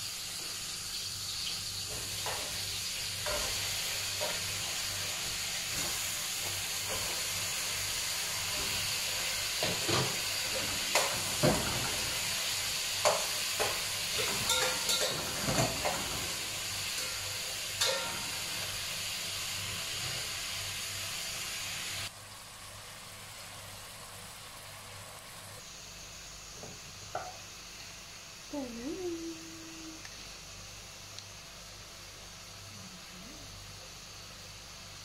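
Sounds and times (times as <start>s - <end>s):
pot boiling hard hissing: 0.0s - 35.0s.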